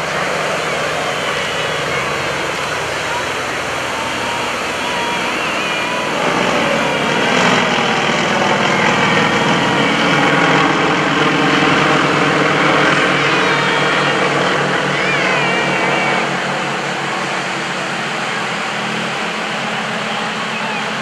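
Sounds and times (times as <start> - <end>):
aircraft radial engines droning: 0.0 - 21.0.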